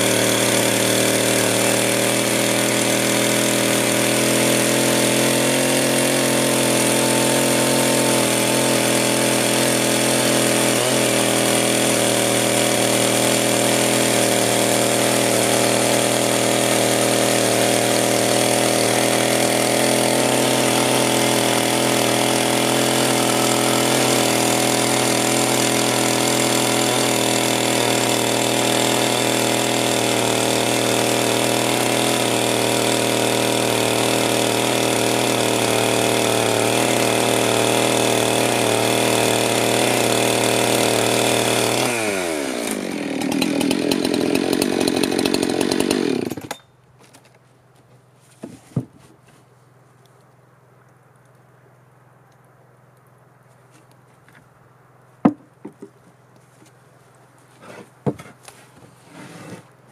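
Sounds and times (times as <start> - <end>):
electric power sander on wood: 0.0 - 46.5, 57.6 - 59.7.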